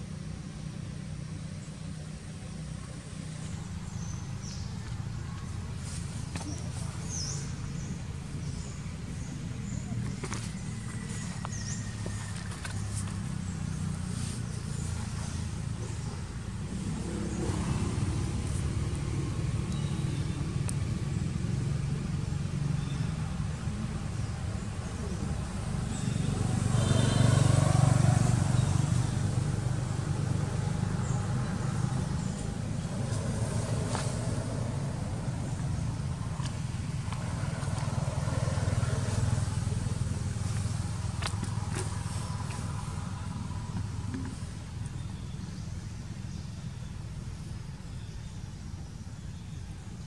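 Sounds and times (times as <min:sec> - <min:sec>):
vehicle engine humming: 0:00.0 - 0:50.0.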